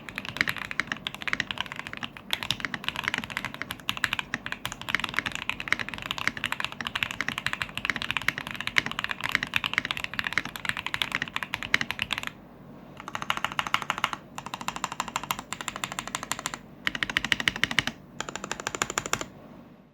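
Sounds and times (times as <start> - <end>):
typing on mechanical keyboard: 0.0 - 12.3, 13.0 - 19.3.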